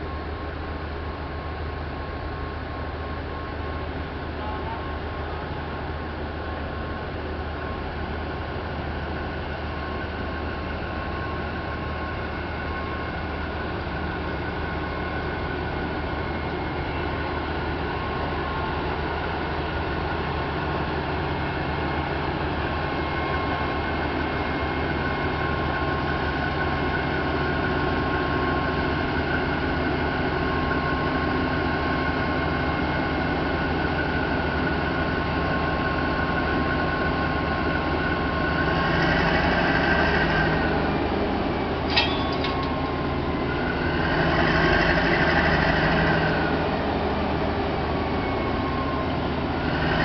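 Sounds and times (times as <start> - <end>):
diesel locomotive engine hum: 0.0 - 50.0.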